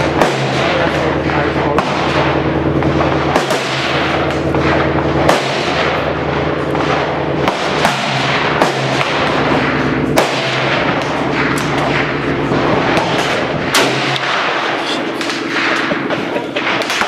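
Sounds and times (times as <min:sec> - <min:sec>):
gunshots: 0:00.0 - 0:17.0
steady hum: 0:00.0 - 0:17.0.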